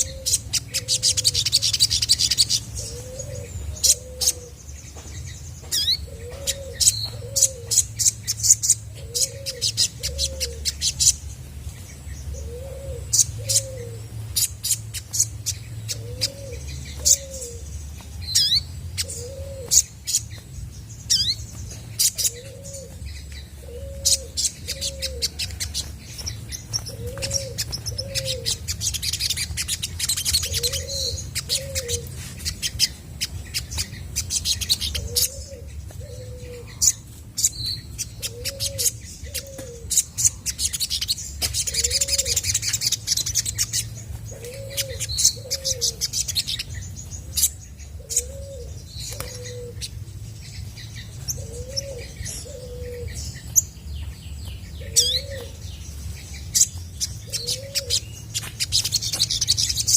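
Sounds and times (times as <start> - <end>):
bird chirps and trills: 0.0 - 59.9.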